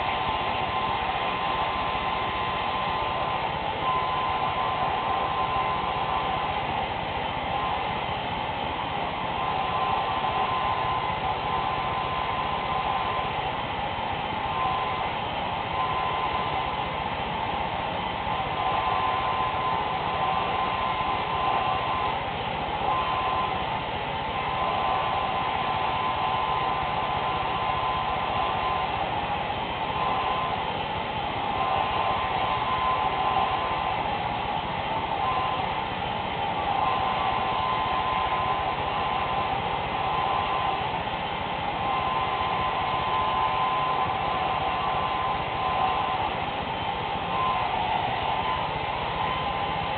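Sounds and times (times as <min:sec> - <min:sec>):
hair dryer blowing: 0:00.0 - 0:08.5, 0:09.1 - 0:49.9.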